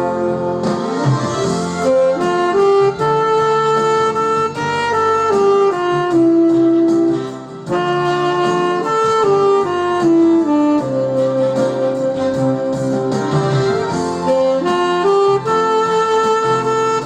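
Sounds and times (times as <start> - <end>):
saxophone slow melody: 0.0 - 17.0.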